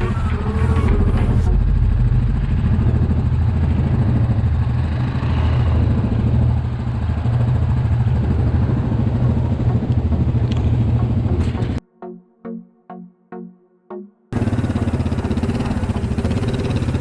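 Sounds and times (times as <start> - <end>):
atv engine droning: 0.0 - 11.8, 14.4 - 17.0.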